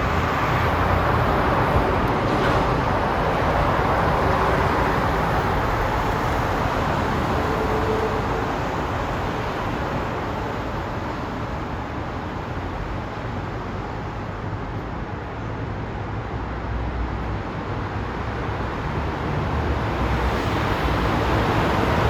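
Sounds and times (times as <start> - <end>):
heavy vehicle engine and tyres rumbling: 0.0 - 22.0.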